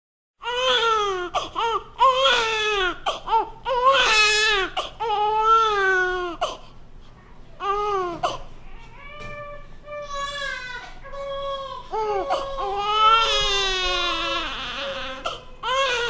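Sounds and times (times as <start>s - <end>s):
baby crying: 0.4s - 6.6s, 7.6s - 16.0s.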